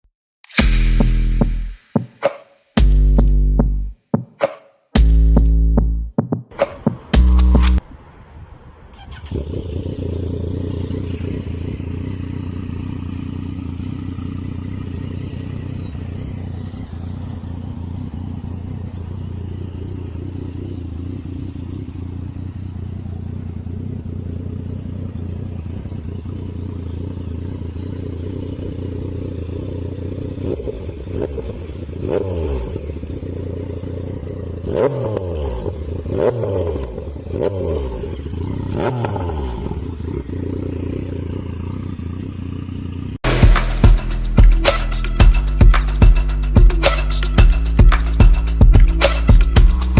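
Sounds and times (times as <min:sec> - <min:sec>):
engine revving: 0:05.0 - 0:07.8, 0:09.0 - 0:49.9
motorcycle engine idling: 0:09.1 - 0:34.9, 0:35.6 - 0:49.9.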